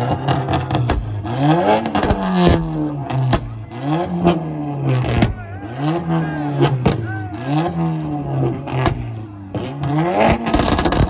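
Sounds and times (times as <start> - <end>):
exhaust pops and bangs: 0.0 - 7.1, 7.7 - 11.0
car engine revving at limiter: 0.0 - 11.0.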